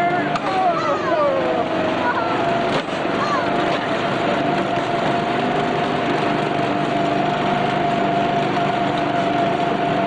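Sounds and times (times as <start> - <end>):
constant whine: 0.0 - 10.0
small engine running: 0.0 - 10.0.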